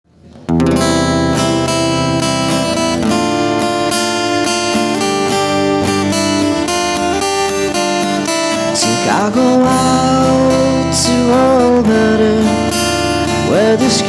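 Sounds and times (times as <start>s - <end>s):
acoustic guitar strumming: 0.1s - 14.0s.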